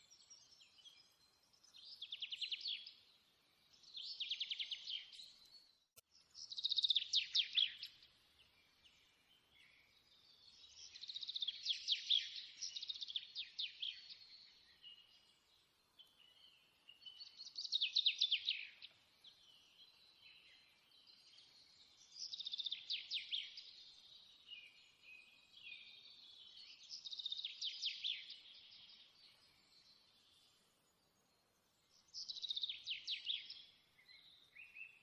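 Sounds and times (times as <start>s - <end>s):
soft bird chirps: 0.0s - 35.0s.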